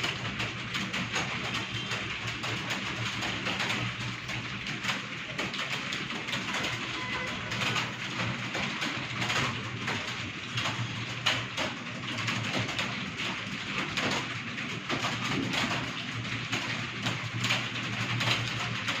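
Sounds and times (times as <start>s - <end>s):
keyboards clattering: 0.0s - 19.0s.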